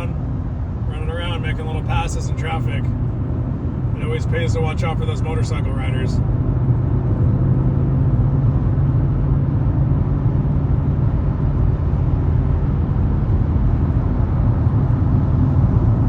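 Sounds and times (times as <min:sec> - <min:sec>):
car cabin road and engine rumble: 0:00.0 - 0:16.0.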